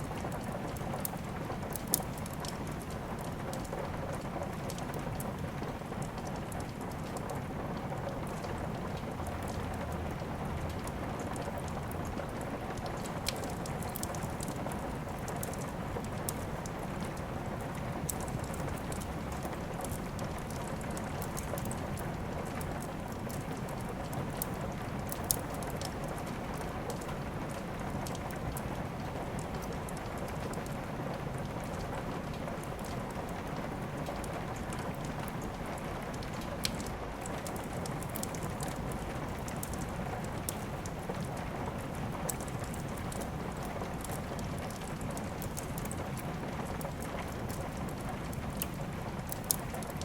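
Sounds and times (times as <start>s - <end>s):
steady rain: 0.0s - 50.0s
wood fire crackling: 0.0s - 50.0s.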